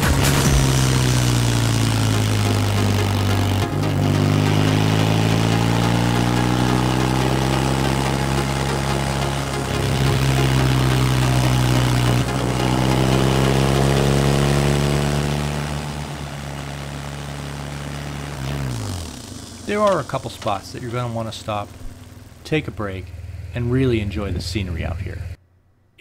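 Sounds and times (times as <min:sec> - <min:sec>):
motorcycle engine running: 0:00.0 - 0:25.4.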